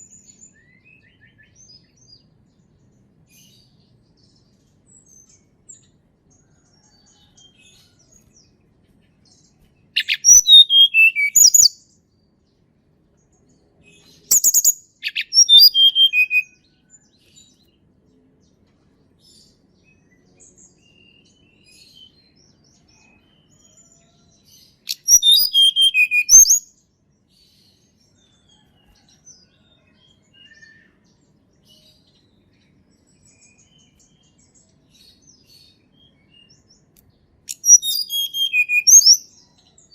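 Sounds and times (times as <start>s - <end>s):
faint bird chirps: 0.0s - 12.4s, 13.2s - 39.9s.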